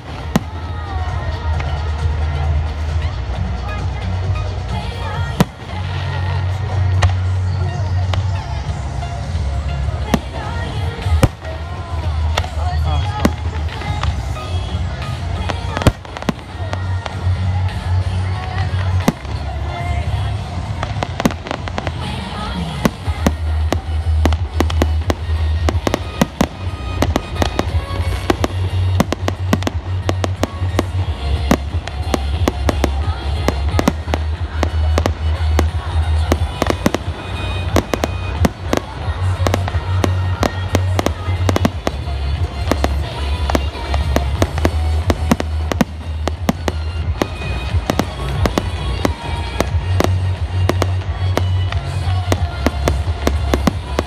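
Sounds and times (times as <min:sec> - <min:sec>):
fireworks banging: 0:00.0 - 0:54.0
music with deep bass: 0:00.0 - 0:54.0.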